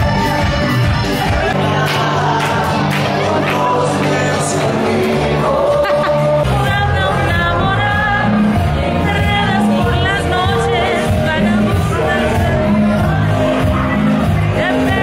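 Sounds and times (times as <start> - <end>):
low bass notes: 0.0 - 15.0
man singing: 0.0 - 15.0.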